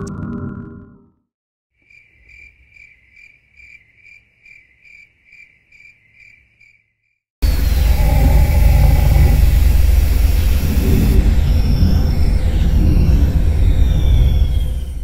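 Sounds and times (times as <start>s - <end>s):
cricket chirping: 1.8s - 15.0s.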